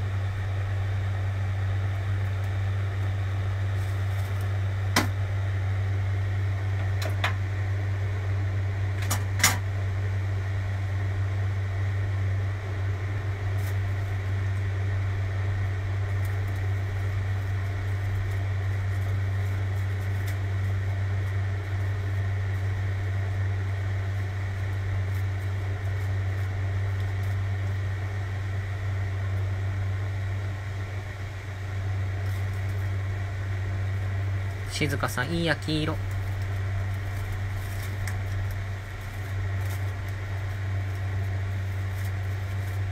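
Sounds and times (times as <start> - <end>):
fan humming: 0.0 - 42.9.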